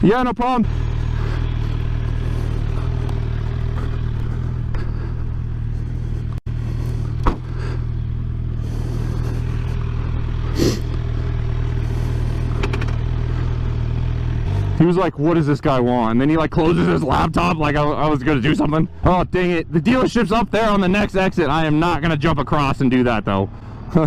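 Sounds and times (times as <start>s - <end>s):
motorcycle engine running: 0.0s - 21.9s
road and wind noise: 0.0s - 24.0s.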